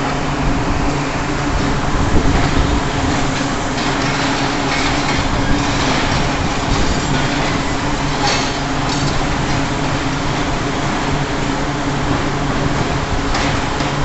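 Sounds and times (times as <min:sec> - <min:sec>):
heavy machinery noise: 0:00.0 - 0:14.0.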